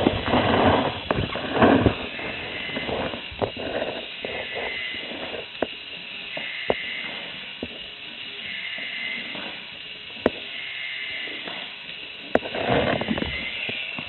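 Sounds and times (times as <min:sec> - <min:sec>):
toy motor and gears whirring: 0:00.0 - 0:14.0.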